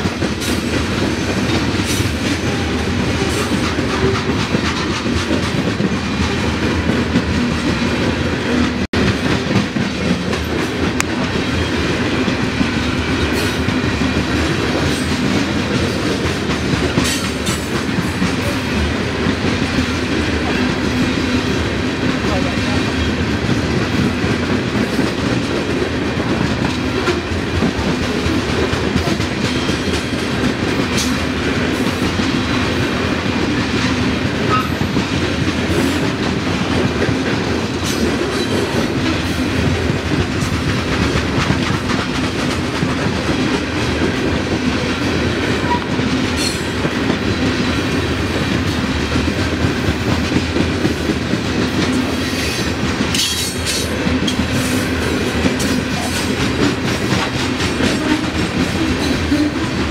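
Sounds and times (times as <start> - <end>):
clickety-clack over rail joints: 0.0 - 59.9
steel wheels rumbling on rail: 0.0 - 59.9.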